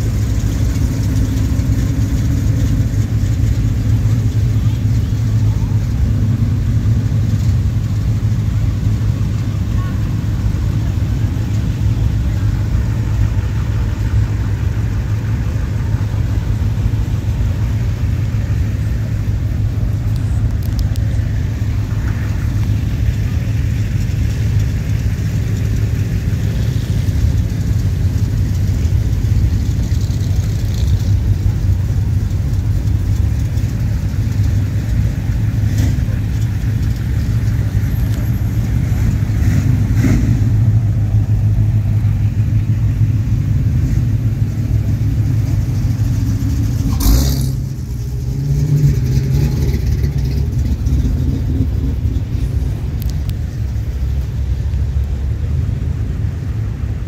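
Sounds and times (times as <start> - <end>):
car engines rumbling: 0.0 - 57.0.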